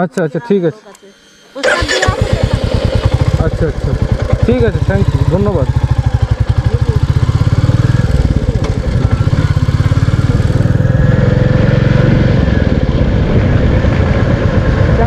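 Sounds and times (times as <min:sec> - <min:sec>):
motorcycle engine thumping: 0:01.6 - 0:13.8.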